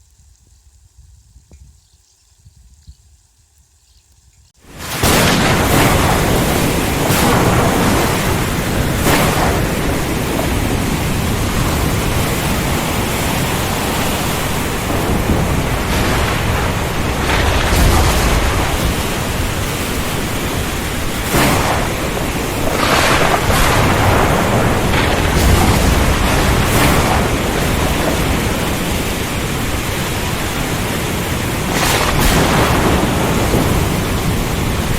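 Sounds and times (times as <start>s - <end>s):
heavy rain pouring: 4.6s - 34.9s.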